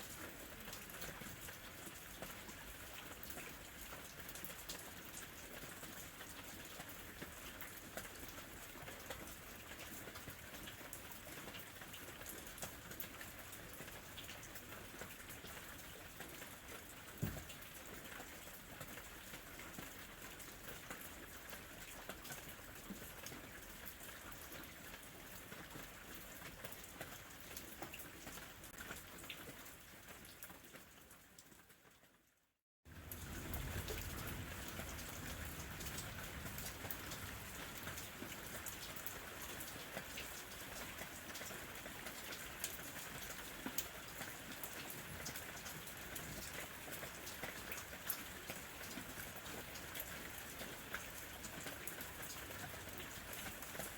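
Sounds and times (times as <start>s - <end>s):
gentle rain falling: 0.0s - 53.9s.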